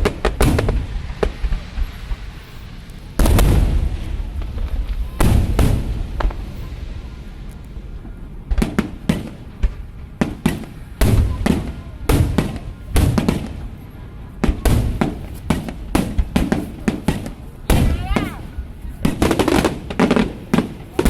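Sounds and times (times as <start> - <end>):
fireworks bangs with rumbling tail: 0.0 - 21.0.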